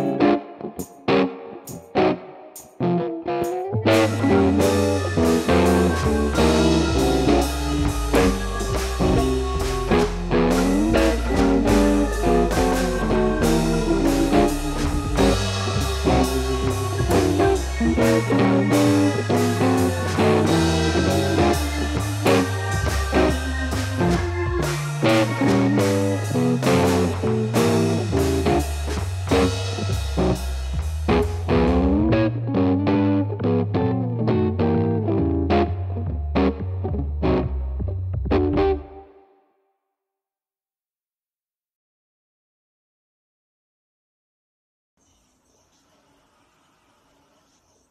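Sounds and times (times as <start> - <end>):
blues-rock band music: 0.0 - 39.1.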